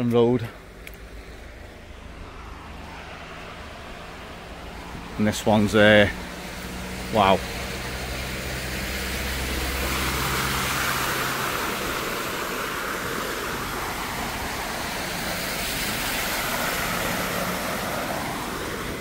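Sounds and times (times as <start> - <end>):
low engine hum: 0.0 - 19.0
tyres ploughing through water: 0.0 - 19.0.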